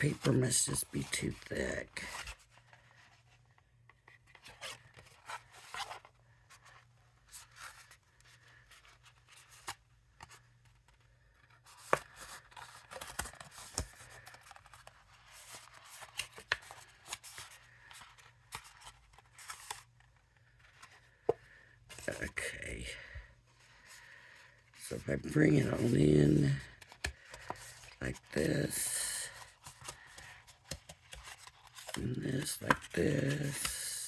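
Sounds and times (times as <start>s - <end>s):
card stock rustling and creasing: 0.0s - 22.6s, 23.7s - 34.0s.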